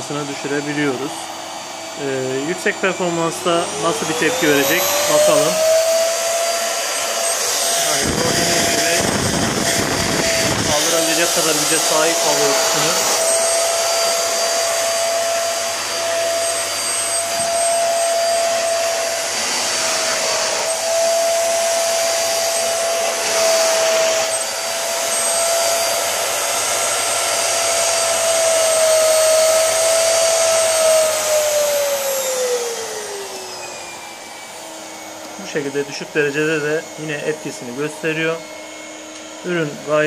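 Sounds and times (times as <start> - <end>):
vacuum cleaner motor whine: 0.0 - 40.0.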